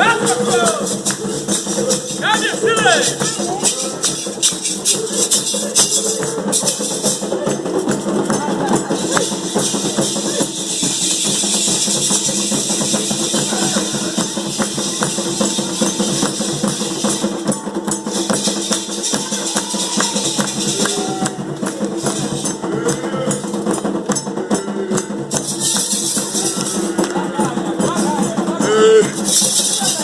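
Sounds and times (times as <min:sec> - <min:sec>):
drums: 0:00.0 - 0:30.0
rattling shakers: 0:00.0 - 0:30.0.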